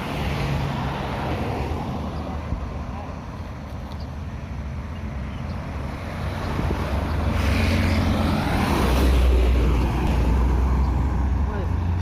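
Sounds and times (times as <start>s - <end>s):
heavy vehicle engine rumbling: 0.0s - 12.0s.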